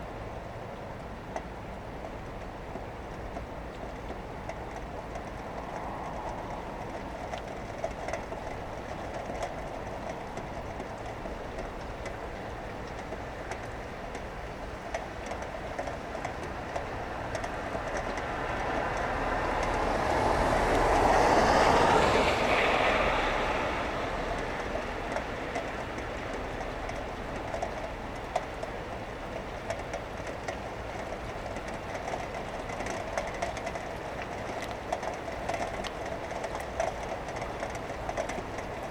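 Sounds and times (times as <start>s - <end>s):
steady rain: 0.0s - 38.9s
vehicle tyres hissing on wet road: 4.7s - 13.8s, 14.4s - 38.9s.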